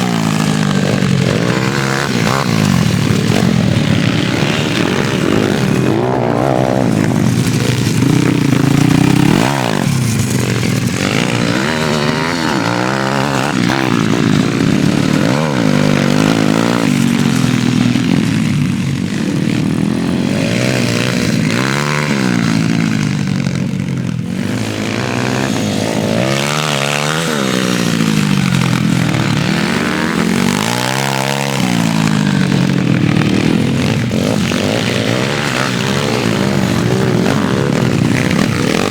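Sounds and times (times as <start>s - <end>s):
pit bike engines revving: 0.0s - 38.9s.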